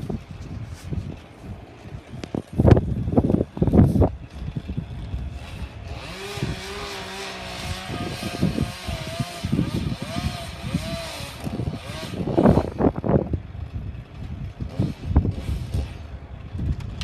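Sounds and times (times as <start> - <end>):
low rumbles: 0.0 - 17.0
chainsaw revving: 1.9 - 16.5.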